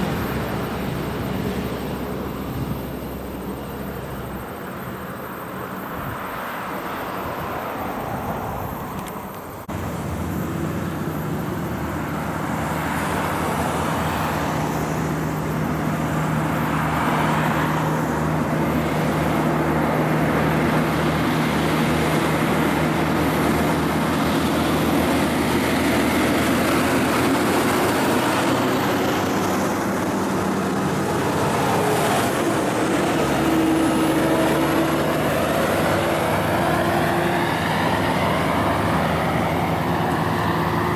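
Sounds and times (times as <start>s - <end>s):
diesel truck engines droning: 0.0s - 40.9s.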